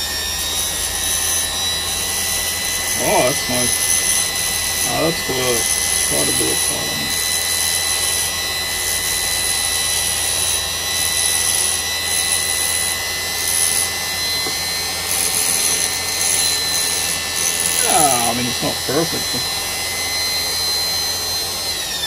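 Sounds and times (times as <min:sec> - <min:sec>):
high grinding hiss: 0:00.0 - 0:21.6
grinder motor whining: 0:00.0 - 0:22.0.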